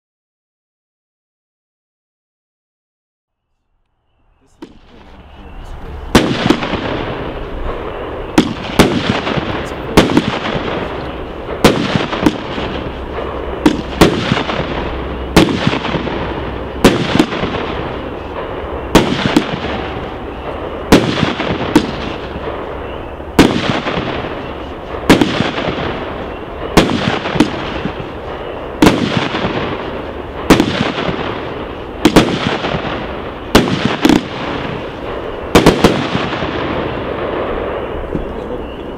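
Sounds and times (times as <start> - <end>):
continuous rushing hiss: 3.8 - 38.9
firework bangs with echo: 4.5 - 38.9.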